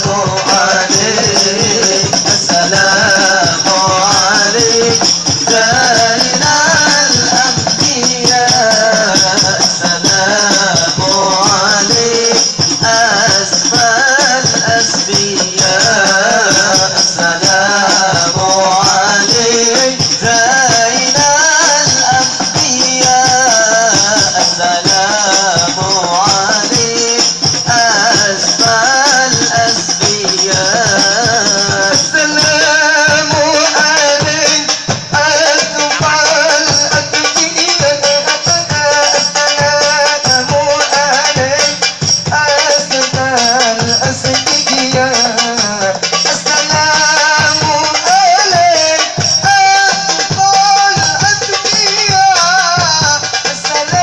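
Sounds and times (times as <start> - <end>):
frame drums: 0.0 - 54.0
man singing devotional melody: 0.0 - 54.0.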